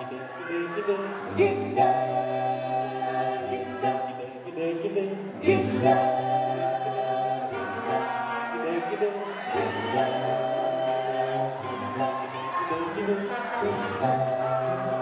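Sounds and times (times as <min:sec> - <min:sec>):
a cappella group singing chords: 0:00.0 - 0:15.0.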